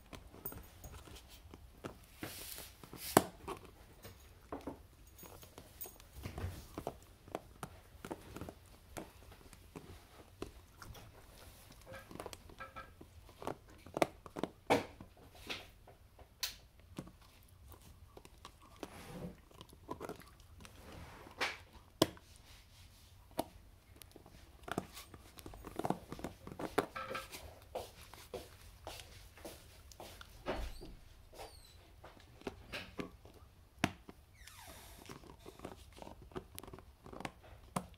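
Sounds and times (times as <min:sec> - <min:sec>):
dog gnawing at plastic jar: 0:00.0 - 0:22.4, 0:23.2 - 0:30.4, 0:31.1 - 0:34.3, 0:35.0 - 0:37.9.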